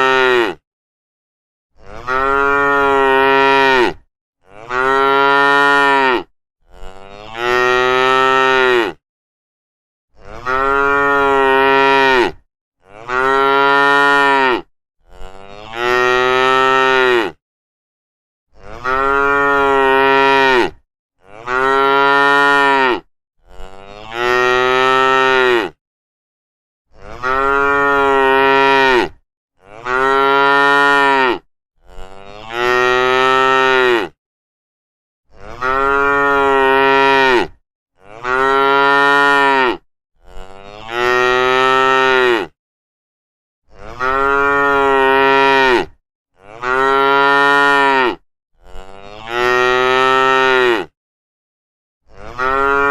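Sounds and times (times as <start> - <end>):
cow mooing: 0.0 - 0.6, 1.8 - 9.0, 10.2 - 17.4, 18.6 - 25.8, 27.0 - 34.2, 35.3 - 42.6, 43.7 - 51.0, 52.1 - 52.9.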